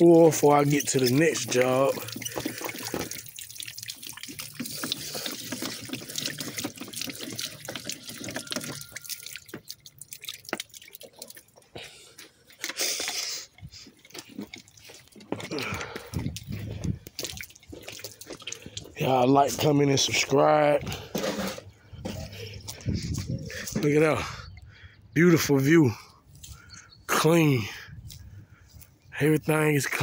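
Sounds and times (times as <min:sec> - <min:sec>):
water dripping and trickling: 0:00.0 - 0:25.0, 0:25.6 - 0:29.0.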